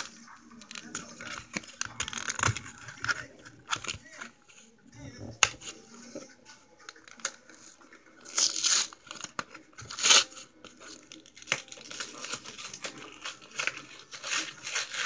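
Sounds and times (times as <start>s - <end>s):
card packaging tearing: 0.0s - 4.4s, 6.8s - 15.0s.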